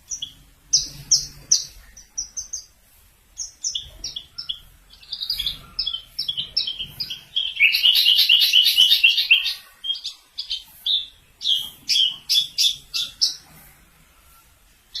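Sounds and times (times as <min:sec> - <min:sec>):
bird singing high chirps and trills: 0:00.0 - 0:13.6, 0:14.4 - 0:15.0.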